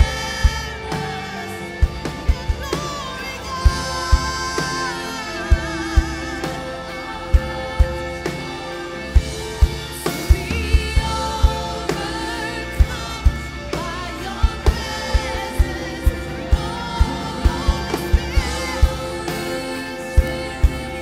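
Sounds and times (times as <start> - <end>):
lead singer singing: 0.0 - 21.0
worship band playing: 0.0 - 21.0.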